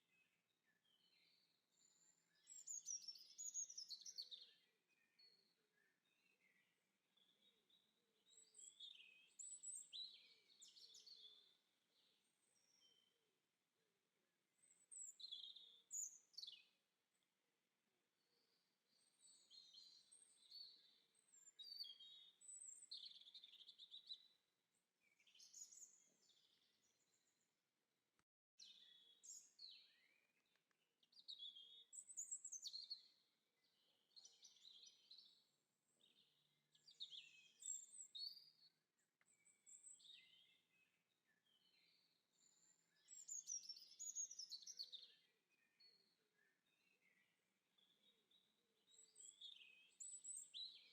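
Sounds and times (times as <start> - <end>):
songbirds chirping and trilling: 0.1 - 13.4, 14.2 - 17.3, 18.2 - 27.5, 28.6 - 50.9.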